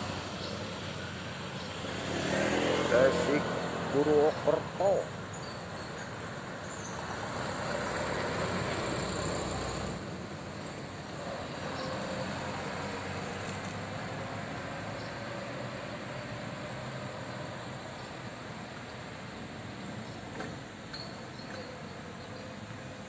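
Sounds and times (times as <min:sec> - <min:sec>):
bus engines and road noise: 0:00.0 - 0:23.0
bus pulling away: 0:00.0 - 0:23.0.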